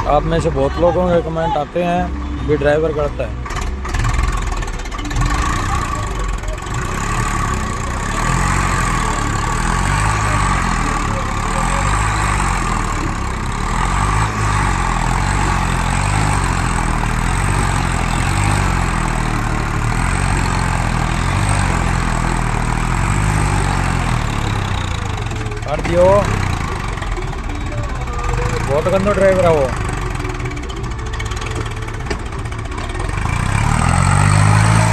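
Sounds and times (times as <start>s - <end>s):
tractor diesel engine droning: 0.0s - 34.9s.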